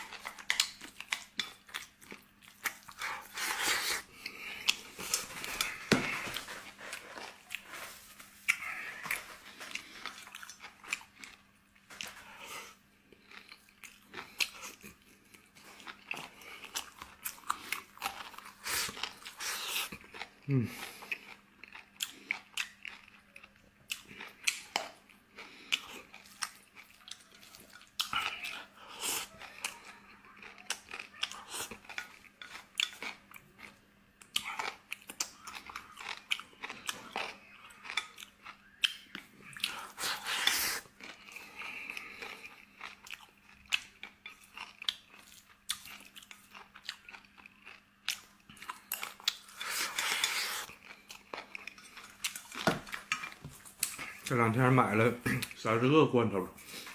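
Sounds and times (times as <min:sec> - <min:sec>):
person chewing food: 0:00.0 - 0:54.4.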